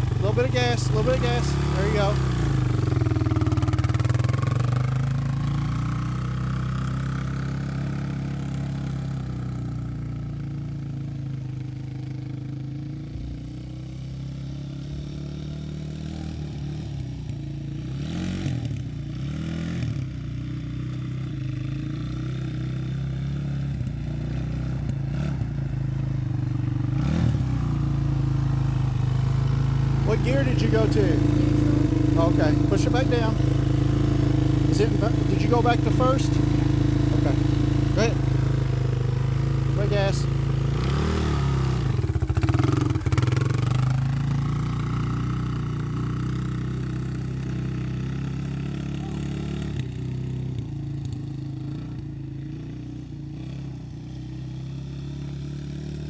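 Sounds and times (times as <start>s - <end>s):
quad bike engine: 0.0s - 56.0s.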